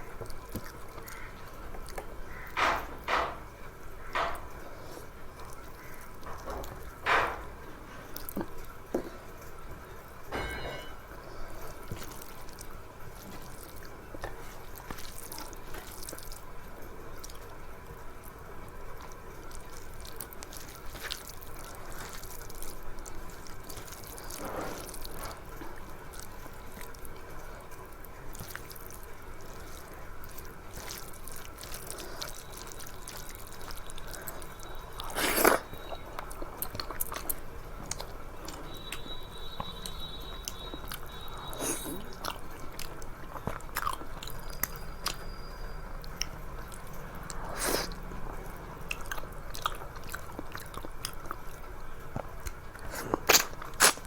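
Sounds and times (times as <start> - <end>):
wet smacking and chewing: 0.0 - 9.8, 11.1 - 54.0.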